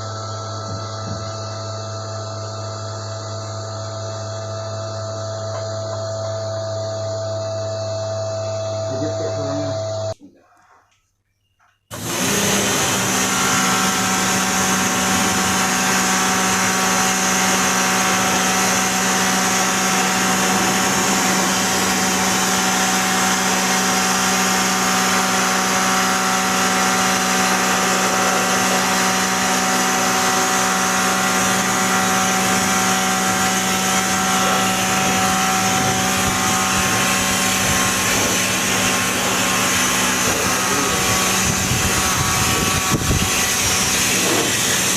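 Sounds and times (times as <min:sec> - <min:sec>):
machine humming and hissing: 0:00.0 - 0:10.2, 0:11.9 - 0:44.9.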